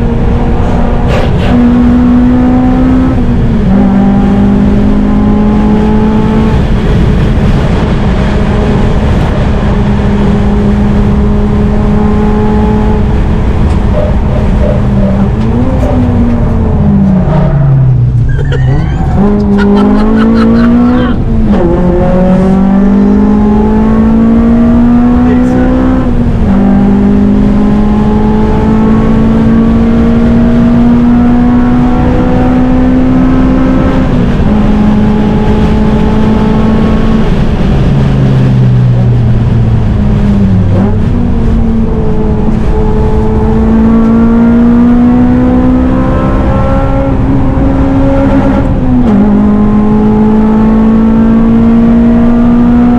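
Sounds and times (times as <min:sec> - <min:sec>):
car engine revving through gears: 0:00.0 - 0:52.9
road and tyre noise: 0:00.0 - 0:52.9.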